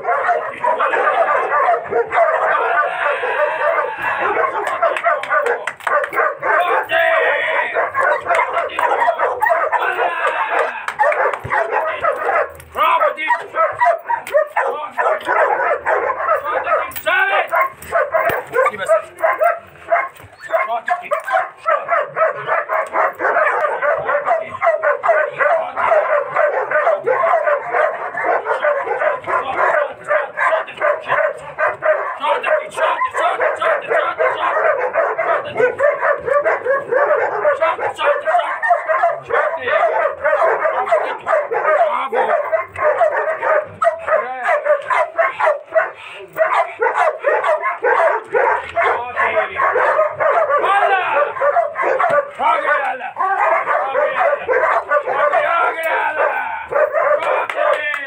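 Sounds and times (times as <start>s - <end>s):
dog barking fast: 0.0s - 57.9s.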